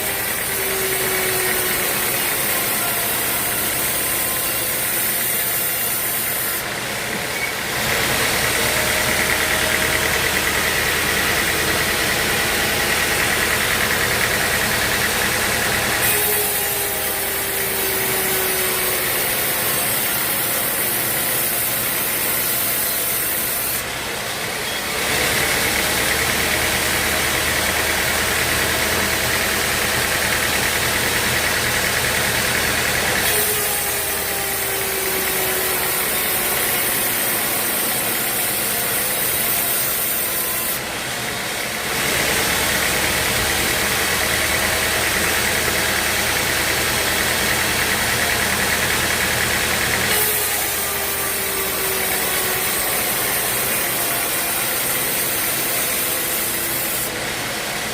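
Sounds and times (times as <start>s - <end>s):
falling whine: 0.0s - 25.0s, 25.8s - 57.9s
sawmill machinery running: 0.0s - 57.9s.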